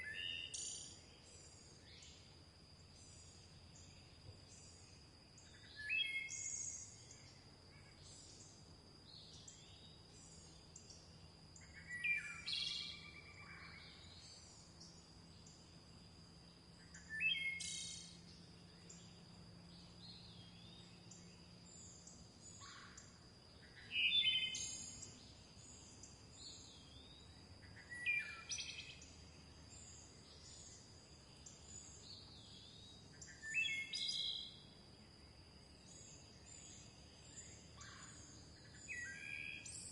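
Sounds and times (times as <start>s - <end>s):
faint bird chirping: 0.0s - 39.9s.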